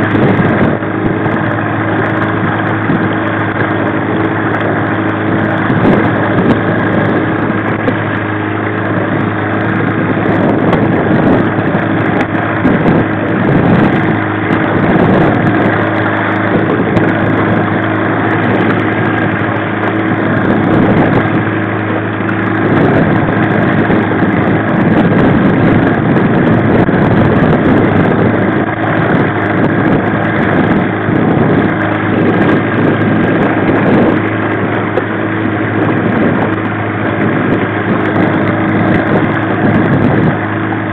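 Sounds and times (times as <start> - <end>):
outboard motor running: 0.0 - 40.9
water: 0.0 - 40.9
wind: 0.0 - 40.9.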